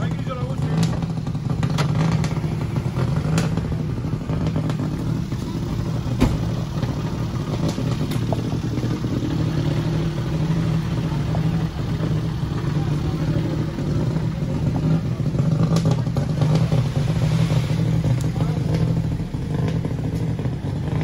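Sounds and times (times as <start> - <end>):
race car engine idling: 0.0 - 21.0.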